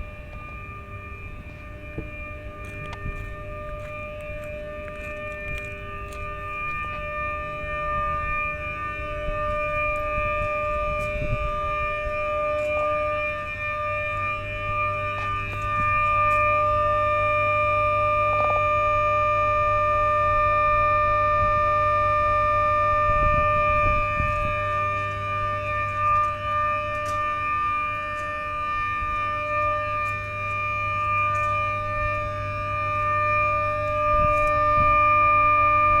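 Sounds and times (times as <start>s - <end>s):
electrical reactor humming: 0.0s - 36.0s.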